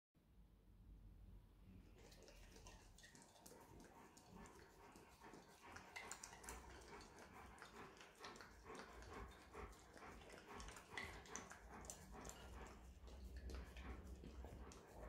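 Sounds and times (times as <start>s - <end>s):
dog licking a metal whisk: 1.9s - 15.0s.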